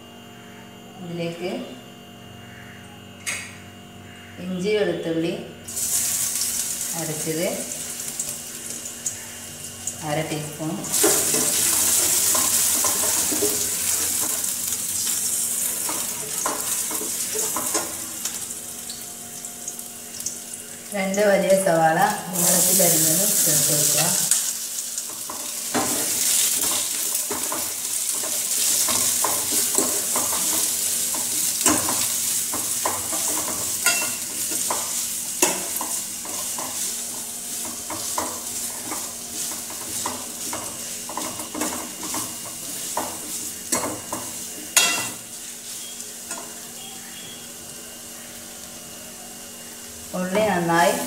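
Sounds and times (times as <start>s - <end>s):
onions sizzling in oil: 5.7s - 51.0s.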